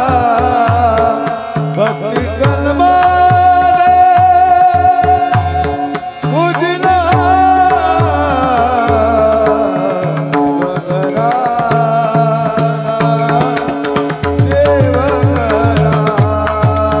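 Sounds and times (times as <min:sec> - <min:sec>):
gliding devotional melody: 0:00.0 - 0:17.0.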